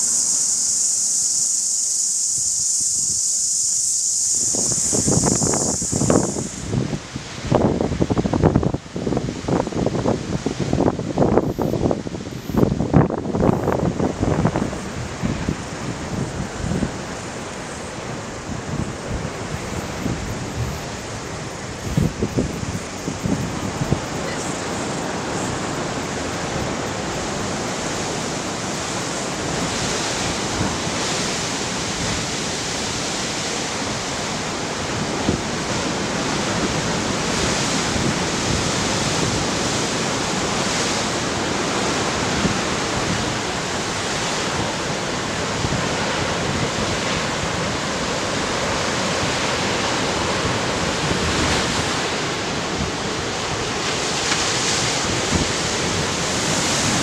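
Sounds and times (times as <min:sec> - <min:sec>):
ocean surf breaking over rocks: 0:04.5 - 0:57.0.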